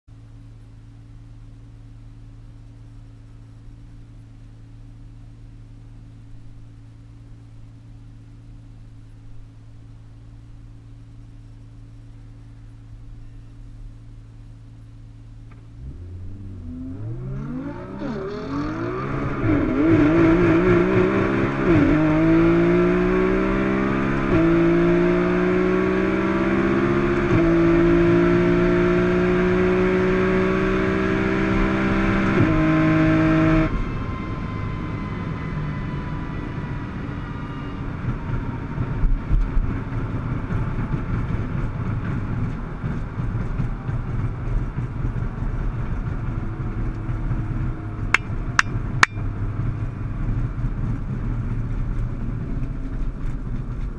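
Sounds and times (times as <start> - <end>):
road and wind noise: 0.1 - 53.9
car engine accelerating: 0.5 - 53.9.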